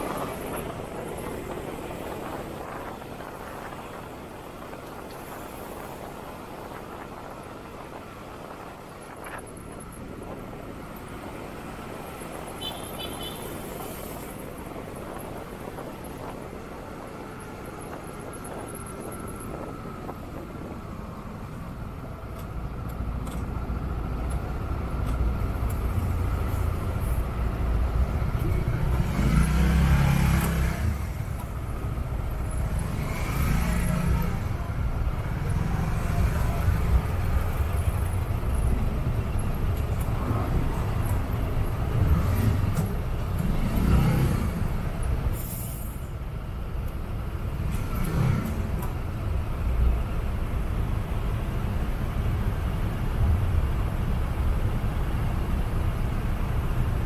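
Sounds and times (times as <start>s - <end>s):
traffic engines rumbling: 0.0s - 57.0s.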